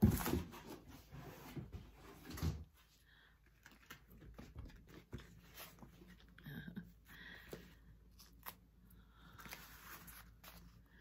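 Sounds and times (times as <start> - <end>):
rustling and handling noise: 0.0 - 11.0.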